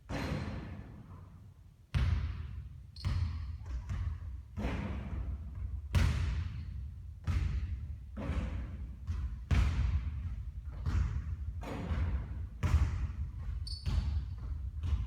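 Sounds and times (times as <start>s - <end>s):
basketball bouncing: 1.9s - 15.0s.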